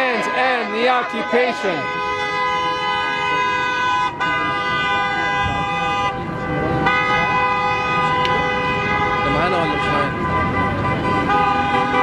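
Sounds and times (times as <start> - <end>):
vehicle horn honking: 0.0 - 12.0.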